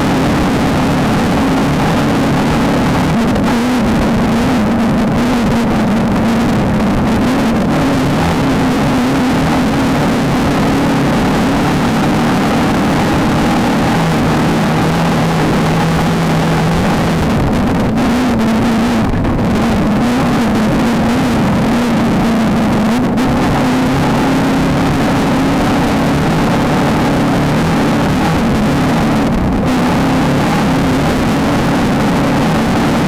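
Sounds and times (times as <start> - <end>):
constant noisy din: 0.0 - 33.0
race car engine running hard: 0.0 - 33.0.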